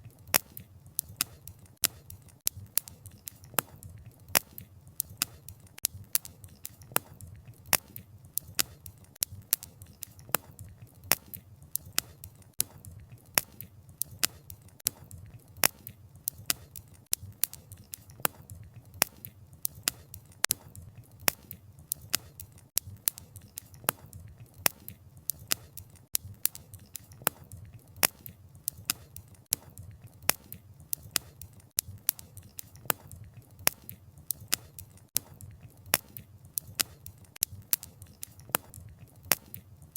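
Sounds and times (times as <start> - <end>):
campfire wood popping and snapping: 0.1 - 39.9.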